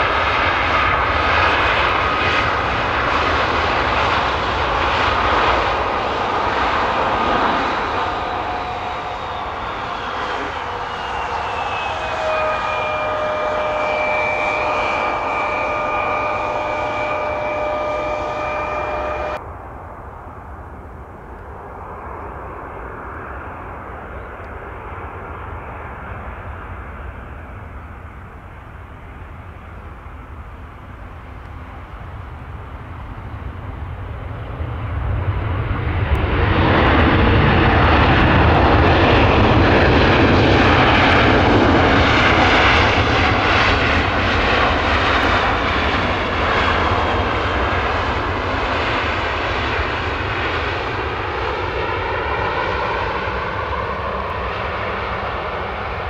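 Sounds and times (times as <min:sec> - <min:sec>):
jet engines roaring: 0:00.0 - 0:56.0
jet engines whining: 0:00.0 - 0:56.0.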